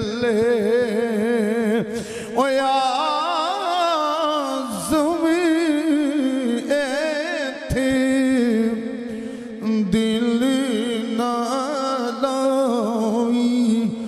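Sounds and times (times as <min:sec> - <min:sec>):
man chanting with vibrato: 0:00.0 - 0:14.0.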